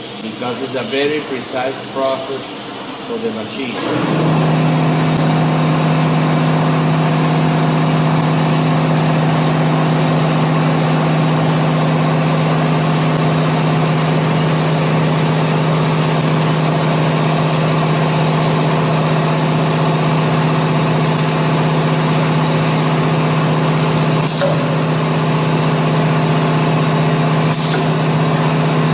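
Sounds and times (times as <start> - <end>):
router spindle humming: 2.8 - 28.9.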